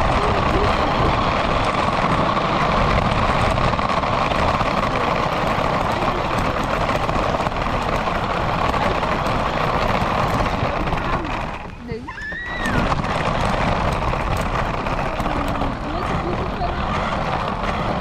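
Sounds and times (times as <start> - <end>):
rc car motor and road noise: 0.0 - 18.0.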